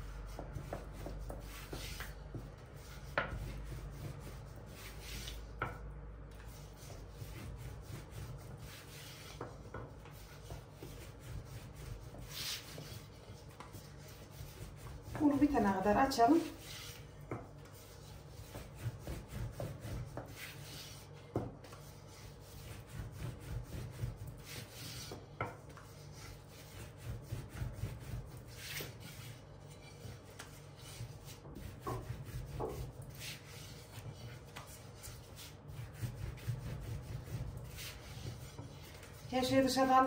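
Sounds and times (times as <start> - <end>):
rolling pin rolling over dough: 0.0 - 40.0.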